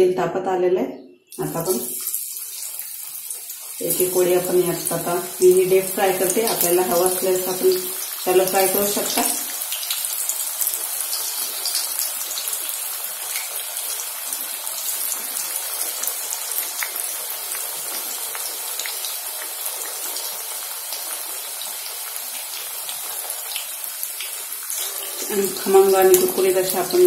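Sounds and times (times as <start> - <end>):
food deep-frying in oil: 1.3 - 27.0.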